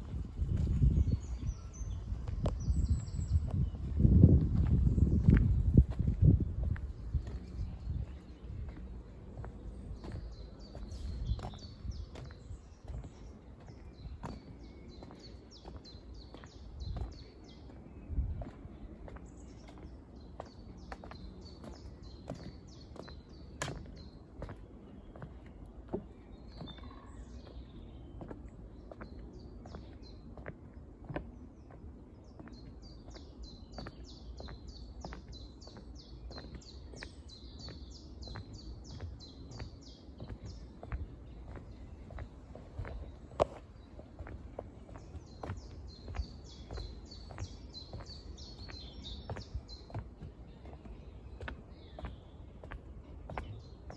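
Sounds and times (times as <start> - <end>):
footsteps on woodland path: 0.0 - 53.9
songbird chirping: 0.0 - 53.9.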